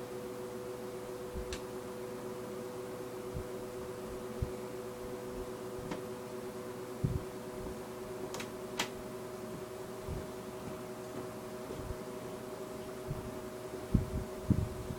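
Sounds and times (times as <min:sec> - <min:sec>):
box fan running: 0:00.0 - 0:14.9.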